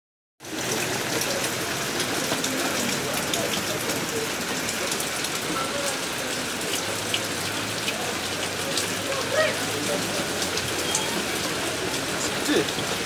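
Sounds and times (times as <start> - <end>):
rain falling on standing water: 0.4 - 13.0.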